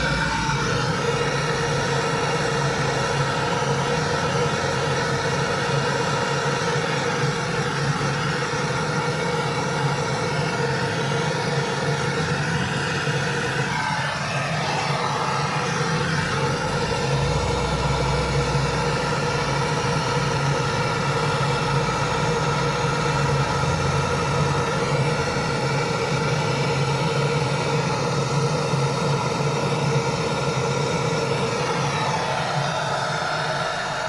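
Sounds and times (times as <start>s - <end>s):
small motor humming: 0.0s - 34.0s.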